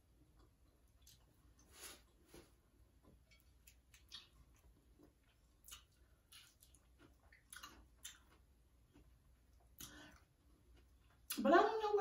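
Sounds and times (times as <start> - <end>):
chewing food: 0.1 - 2.2, 2.8 - 11.6.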